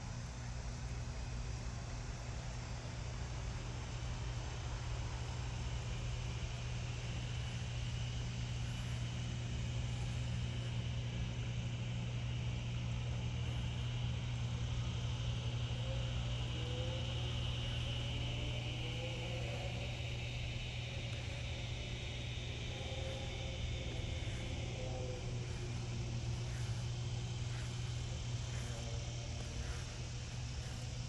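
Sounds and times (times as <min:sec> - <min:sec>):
background hiss: 0:00.0 - 0:31.0
low mechanical hum: 0:00.0 - 0:31.0
faint high-pitched drone: 0:04.4 - 0:31.0.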